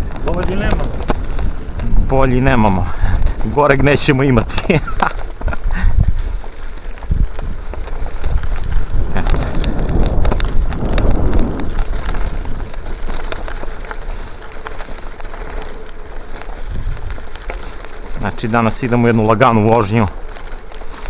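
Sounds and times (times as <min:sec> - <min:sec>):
bicycle tyres crunching on gravel: 0:00.0 - 0:21.0
rattles and clicks of bike: 0:00.0 - 0:21.0
wind buffeting microphone: 0:00.0 - 0:21.0.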